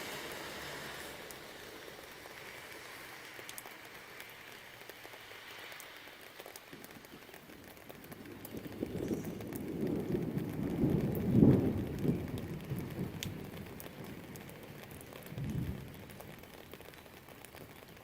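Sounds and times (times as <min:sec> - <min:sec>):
light rain: 0:00.0 - 0:18.0
raindrops tapping near microphone: 0:00.0 - 0:18.0.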